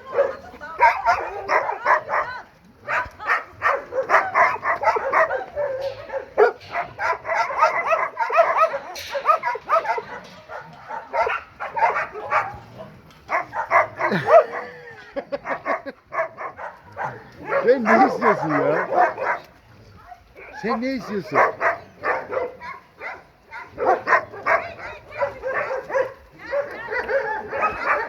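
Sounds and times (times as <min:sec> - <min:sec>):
dogs barking and yelping: 0:00.0 - 0:28.0.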